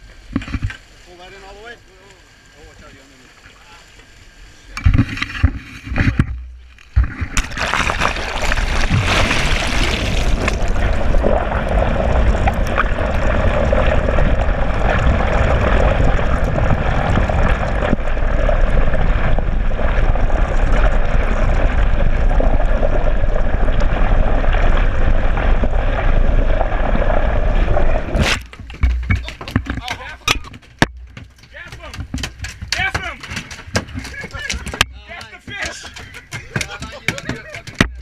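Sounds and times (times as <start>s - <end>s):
muffled underwater water rush: 0.0s - 31.0s.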